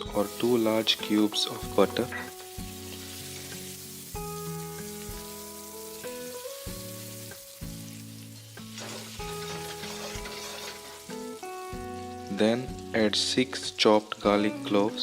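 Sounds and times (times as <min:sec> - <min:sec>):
butter sizzling in a hot pan: 0:00.0 - 0:15.0
instrumental music with held notes: 0:00.0 - 0:15.0.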